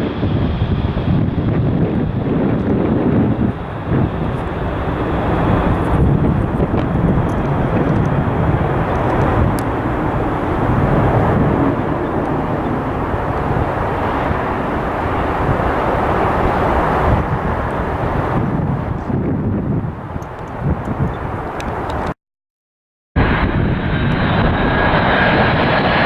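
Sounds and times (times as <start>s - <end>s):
jet engines rushing: 0.0s - 22.2s, 23.2s - 26.0s.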